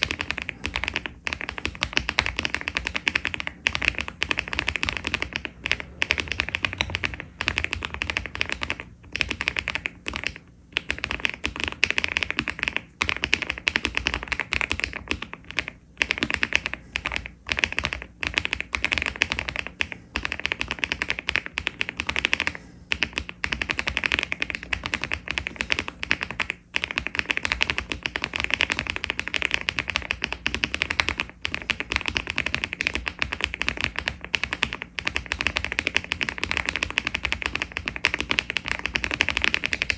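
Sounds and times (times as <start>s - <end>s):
rapid keyboard key clacks: 0.0s - 39.9s.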